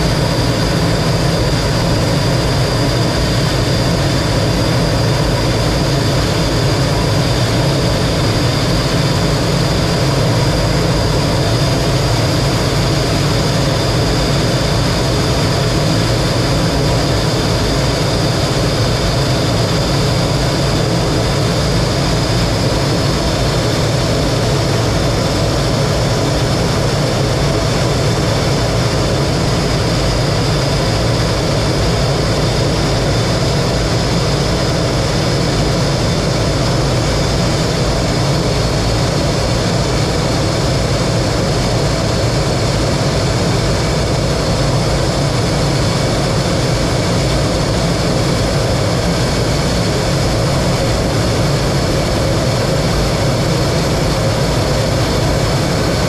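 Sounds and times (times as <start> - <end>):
jet engine roar and whine: 0.0 - 56.0.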